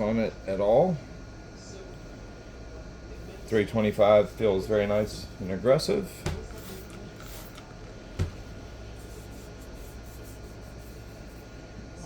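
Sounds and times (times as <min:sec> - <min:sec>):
low hum of room noise: 0:00.0 - 0:12.0.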